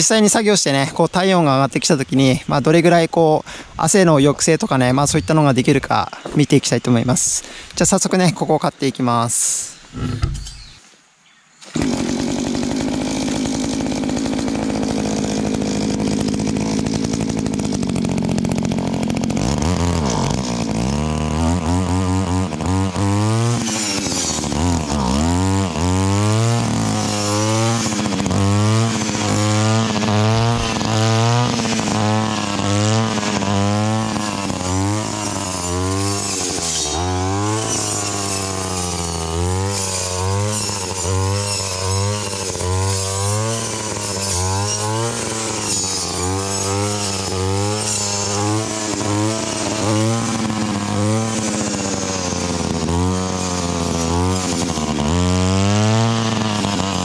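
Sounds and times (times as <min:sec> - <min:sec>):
brush cutter engine revving: 0:00.0 - 0:10.8, 0:11.6 - 0:57.0.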